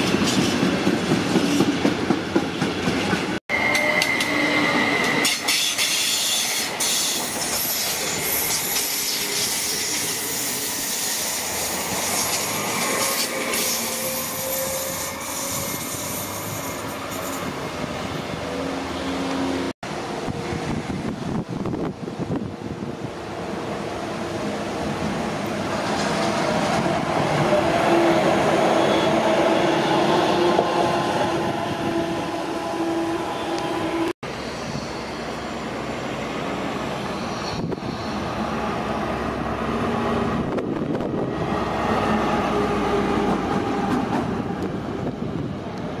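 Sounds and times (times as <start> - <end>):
train wheels on rail: 0.0 - 23.2, 23.8 - 46.0
diesel locomotive engine passing: 0.0 - 46.0
electric locomotive whine: 3.5 - 46.0.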